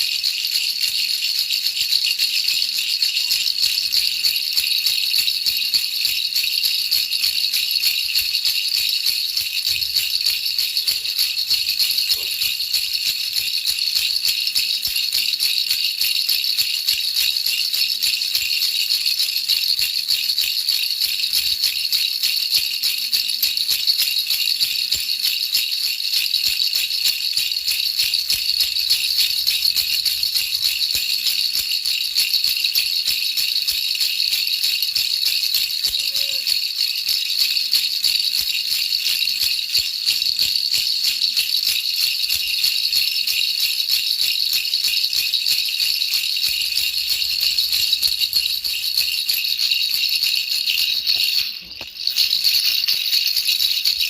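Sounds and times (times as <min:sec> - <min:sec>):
baby rattle shaken: 0:00.0 - 0:54.0.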